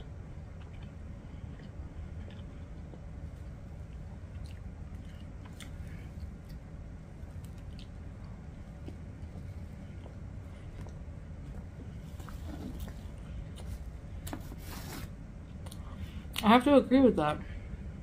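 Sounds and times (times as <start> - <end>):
person chewing a sandwich: 0.0 - 14.8
steady low hum: 0.0 - 18.0.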